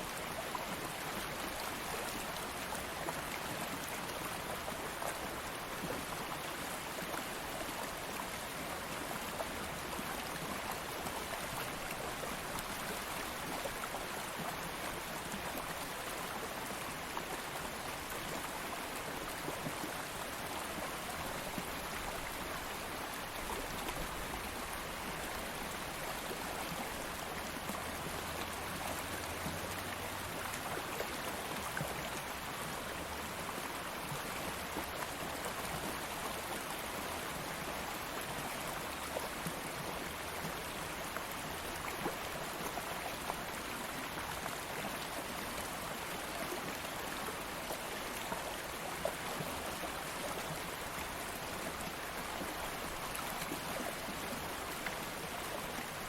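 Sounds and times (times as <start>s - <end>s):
stream of water babbling: 0.0s - 56.0s.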